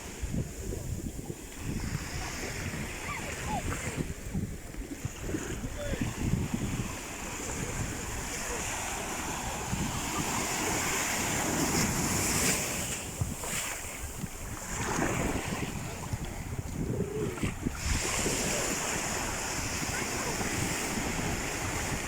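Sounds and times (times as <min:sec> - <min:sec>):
sea waves washing in: 0:00.0 - 0:22.0
wind buffeting microphone: 0:00.0 - 0:22.0.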